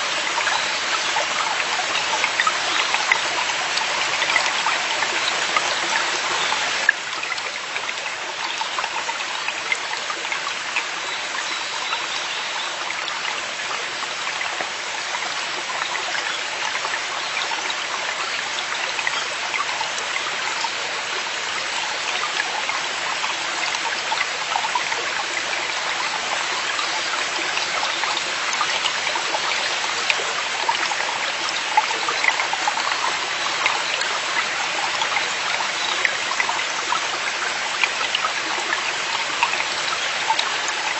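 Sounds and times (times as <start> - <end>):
brook babbling over rocks: 0.0 - 40.9
water splashes and trickles: 0.0 - 40.9.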